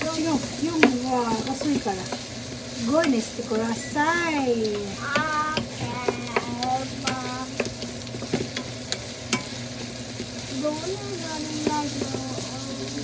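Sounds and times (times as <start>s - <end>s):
onions sizzling in a frying pan: 0.0s - 13.0s.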